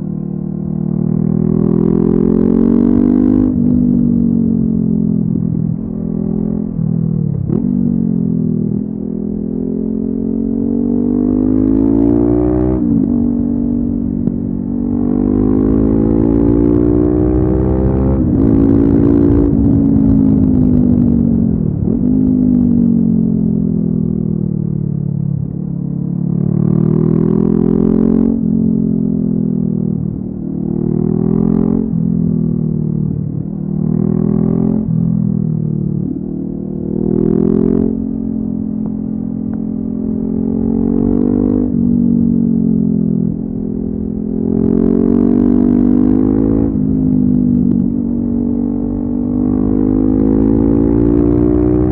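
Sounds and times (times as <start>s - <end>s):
motorcycle engine revving: 0.8s - 51.9s.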